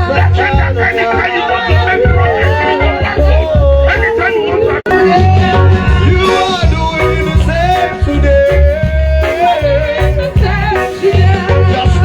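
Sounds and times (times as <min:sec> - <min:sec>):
gospel worship music: 0:00.0 - 0:12.0.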